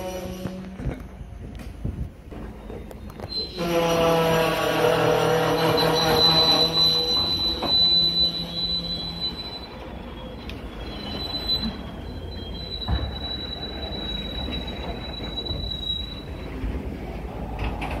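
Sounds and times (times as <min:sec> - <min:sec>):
low train rumble: 0:00.0 - 0:18.0
high-pitched wheel squeal: 0:02.4 - 0:16.9.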